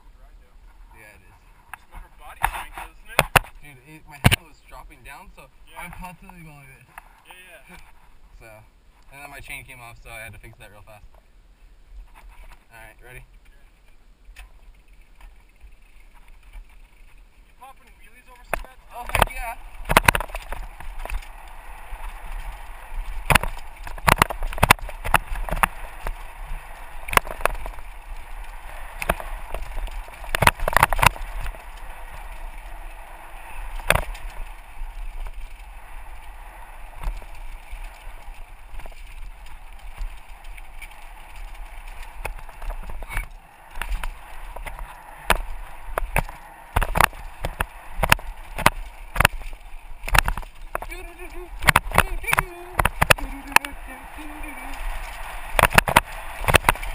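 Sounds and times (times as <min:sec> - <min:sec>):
steady rush of noise: 0:00.0 - 0:56.9
bike knocking and rattling: 0:01.8 - 0:05.2, 0:12.0 - 0:56.9.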